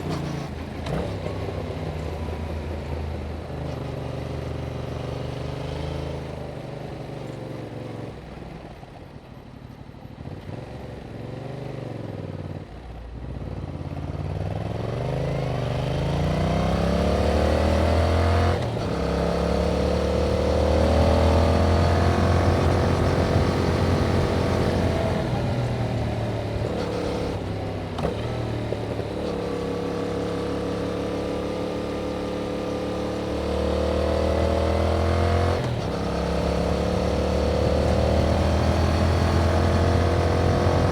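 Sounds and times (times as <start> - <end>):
motorcycle engine accelerating: 0.0 - 8.4, 10.2 - 40.9.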